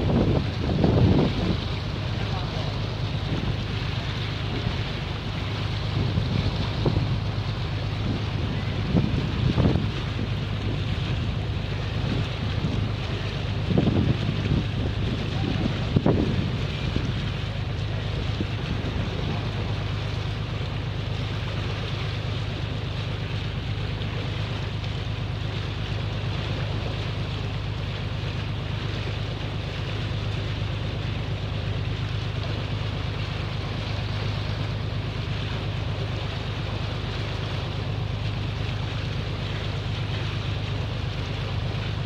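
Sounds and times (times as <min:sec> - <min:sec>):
boat engine drone: 0:00.0 - 0:42.0
wind and water rushing: 0:00.0 - 0:42.0.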